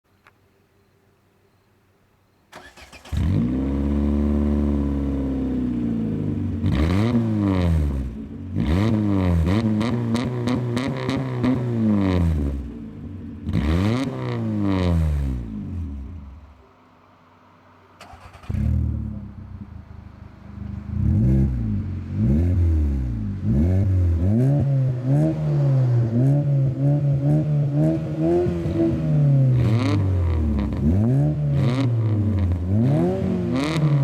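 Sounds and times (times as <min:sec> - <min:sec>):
car engine revving: 0:02.6 - 0:16.6, 0:18.0 - 0:34.0.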